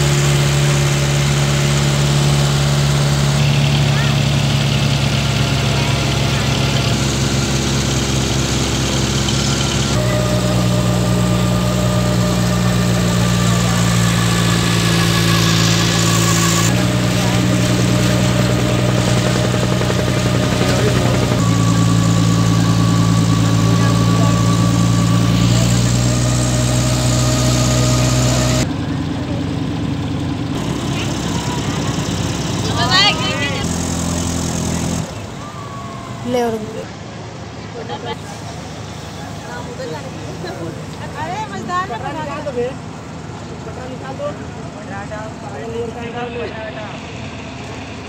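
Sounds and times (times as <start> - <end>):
motorboat engine droning: 0.0 - 48.0.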